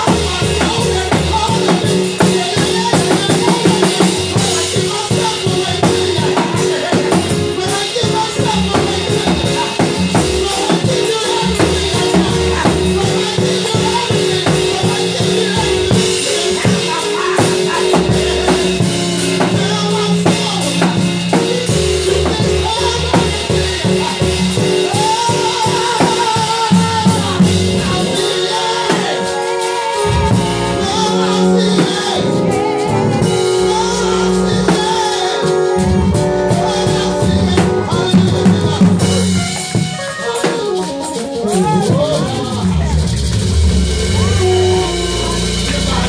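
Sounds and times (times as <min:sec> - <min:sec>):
man singing into a microphone: 0:00.0 - 0:43.0
drum kit: 0:00.0 - 0:46.0
sustained instrumental chords: 0:00.0 - 0:46.0.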